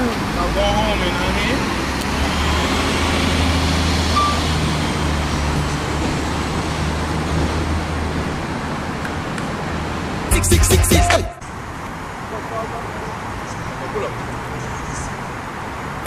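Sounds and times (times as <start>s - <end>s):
motor vehicle rumble and hiss: 0.0s - 10.3s, 11.4s - 16.0s.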